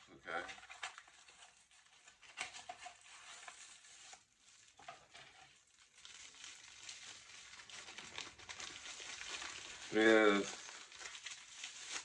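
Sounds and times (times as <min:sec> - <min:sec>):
packaging crinkling: 0:00.3 - 0:12.0.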